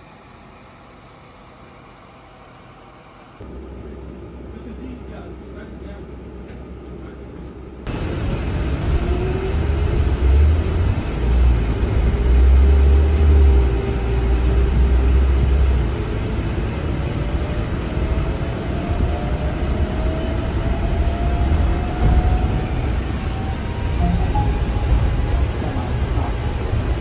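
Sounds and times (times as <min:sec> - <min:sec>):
electric bus drive whine: 0:00.0 - 0:27.0
low rumble of bus ride: 0:00.0 - 0:27.0.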